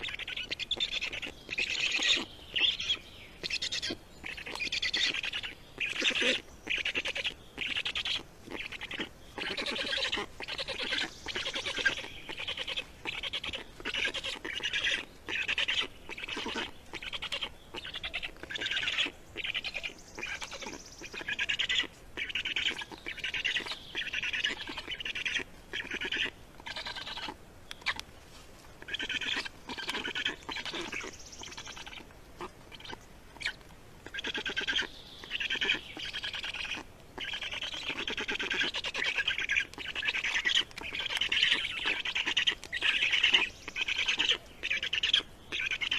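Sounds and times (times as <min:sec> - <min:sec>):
small bird calling: 0:00.0 - 0:28.1, 0:28.8 - 0:45.9.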